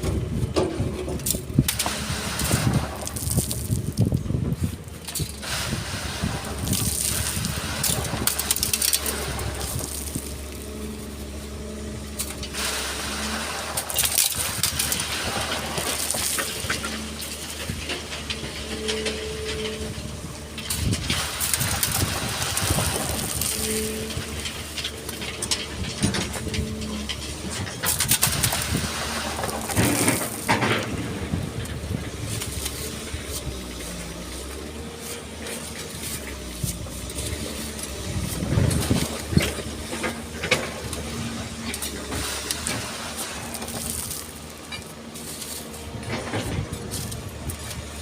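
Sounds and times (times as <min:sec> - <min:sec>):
excavator diesel engine: 0:00.0 - 0:48.0
hydraulic whine: 0:00.0 - 0:48.0
sand and stones rushing: 0:00.0 - 0:48.0.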